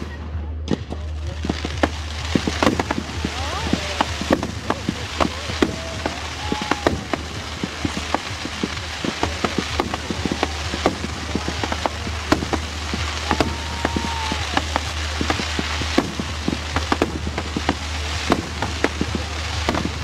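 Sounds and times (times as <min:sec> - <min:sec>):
firework whistling: 0:00.0 - 0:20.0
fireworks crackling: 0:00.0 - 0:20.0.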